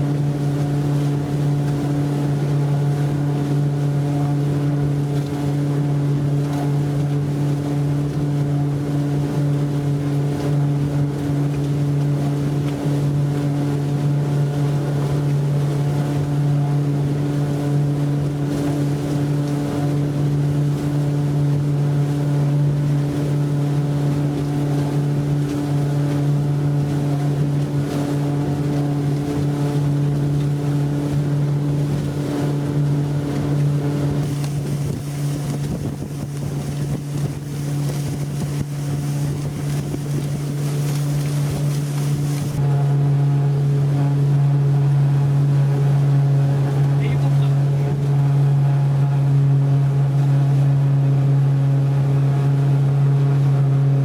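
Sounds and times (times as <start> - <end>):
outboard motor running: 0.0 - 54.0
rush of wind and water: 0.0 - 54.0.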